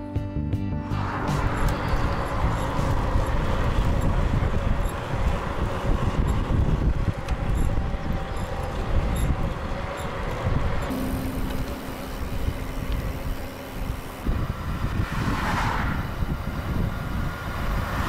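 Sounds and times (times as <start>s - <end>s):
tyres rumbling on asphalt: 0.9s - 18.0s
wind buffeting microphone: 1.0s - 18.0s.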